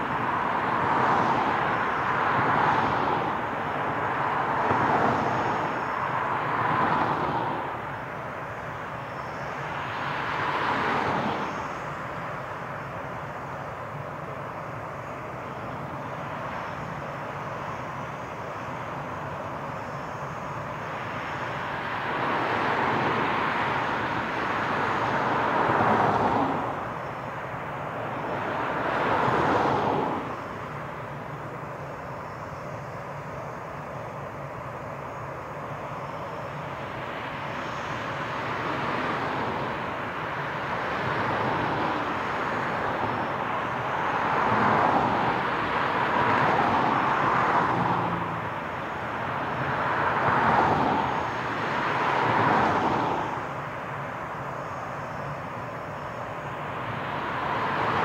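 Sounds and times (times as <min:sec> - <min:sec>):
jet engines at high power: 0:00.0 - 0:58.0.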